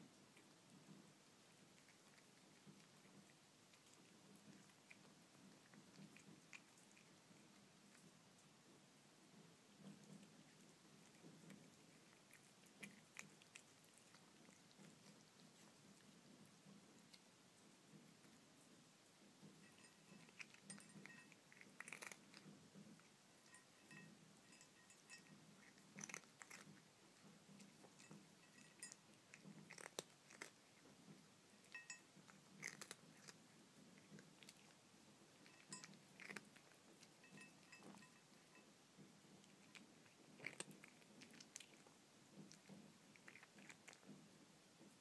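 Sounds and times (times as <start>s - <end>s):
cat crunching dry kibble: 0.4s - 8.5s, 9.8s - 38.6s, 39.2s - 44.9s.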